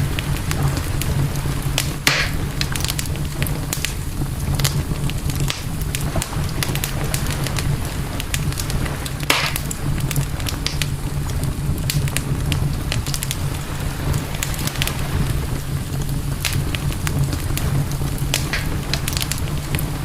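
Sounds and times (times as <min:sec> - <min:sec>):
campfire crackling and popping: 0:00.0 - 0:20.0
steady low rumble: 0:00.0 - 0:20.0.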